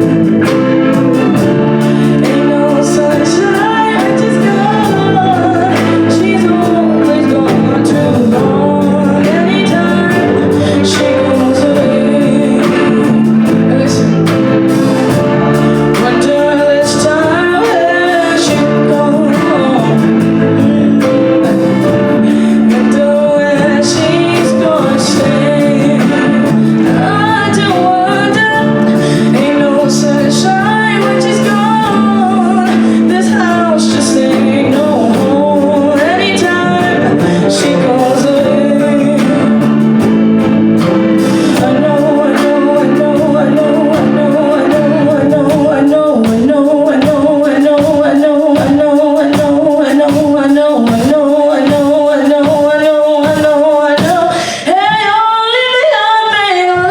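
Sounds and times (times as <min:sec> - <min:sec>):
rhythmic pulse: 0:00.0 - 0:54.4
guitar accompaniment: 0:00.0 - 0:56.9
person singing: 0:00.0 - 0:56.9.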